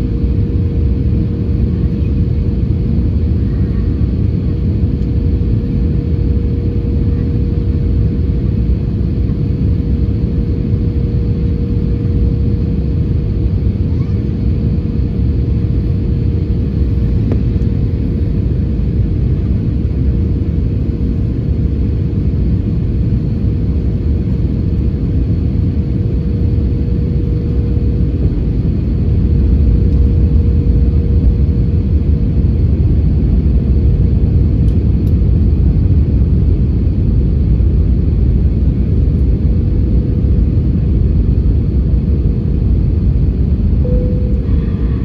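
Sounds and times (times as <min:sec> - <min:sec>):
constant mid-pitched hum: 0:00.0 - 0:45.0
engine and airflow rumble: 0:00.0 - 0:45.0.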